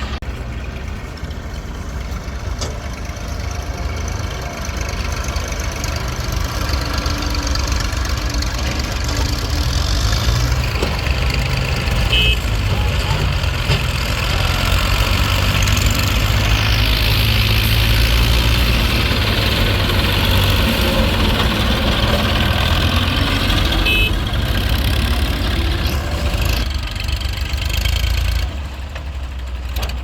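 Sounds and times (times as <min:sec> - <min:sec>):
diesel engines rumbling and clattering: 0:00.0 - 0:30.0.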